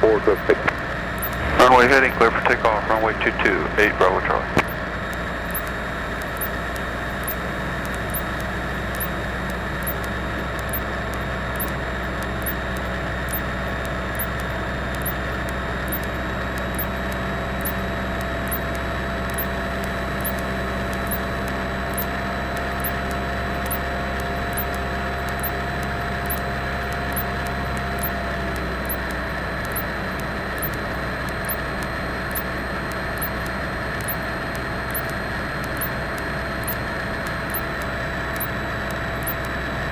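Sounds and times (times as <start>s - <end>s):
faint high ticking: 0.0s - 39.6s
airplane engine drone: 0.0s - 39.9s.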